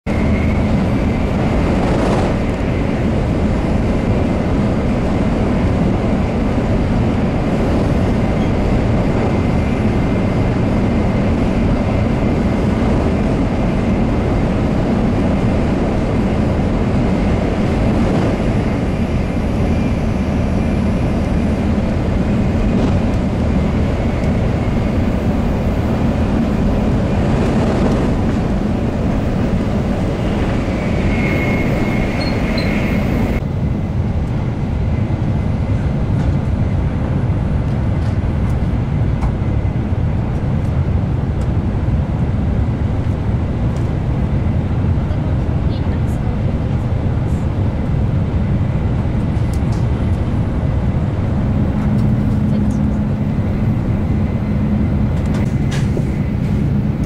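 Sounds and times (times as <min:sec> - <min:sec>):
high-speed train interior rumble: 0:00.0 - 0:57.0.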